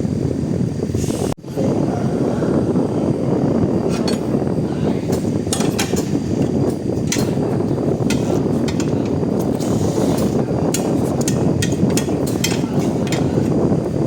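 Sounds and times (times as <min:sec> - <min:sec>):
low machinery rumble: 0:00.0 - 0:14.0.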